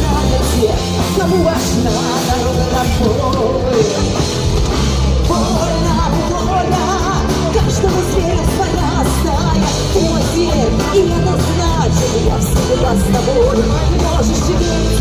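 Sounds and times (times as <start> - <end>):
live folk-rock band playing: 0.0 - 15.0.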